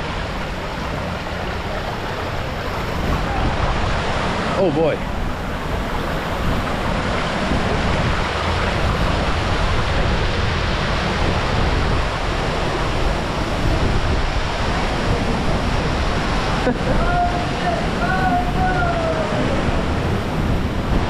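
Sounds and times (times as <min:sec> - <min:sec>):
stream running over rocks: 0:00.0 - 0:21.0
waterfall rushing: 0:00.0 - 0:21.0.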